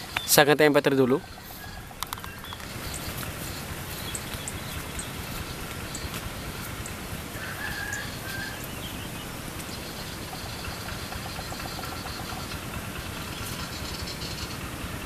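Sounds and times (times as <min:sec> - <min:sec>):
low outdoor noise: 0:00.0 - 0:15.0
high bird chirps: 0:01.2 - 0:14.7.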